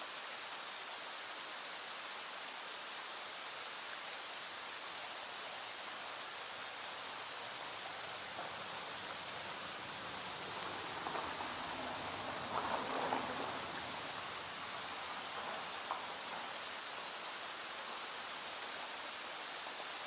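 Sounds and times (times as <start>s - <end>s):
rain falling: 0.0s - 20.0s
stream flowing: 0.0s - 20.0s.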